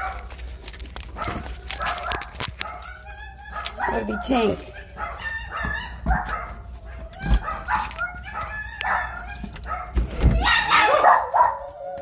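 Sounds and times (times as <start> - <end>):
dog yelping and howling: 1.1 - 12.0.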